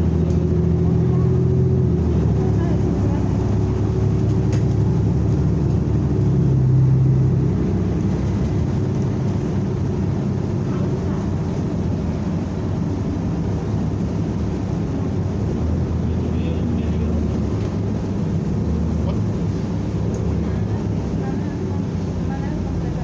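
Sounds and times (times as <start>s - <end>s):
bus engine droning: 0.0s - 23.0s
road noise: 0.0s - 23.0s.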